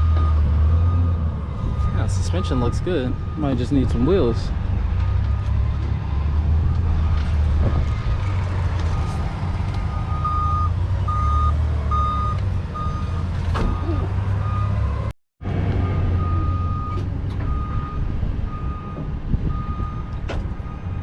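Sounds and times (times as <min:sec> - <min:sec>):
truck reversing alarm beeps: 0:00.0 - 0:01.2, 0:01.8 - 0:04.1, 0:05.0 - 0:15.0, 0:15.8 - 0:21.0.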